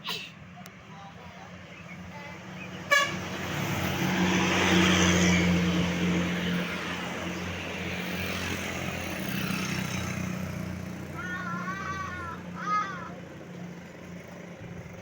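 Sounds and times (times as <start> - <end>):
bus engine driving past: 1.5 - 15.0.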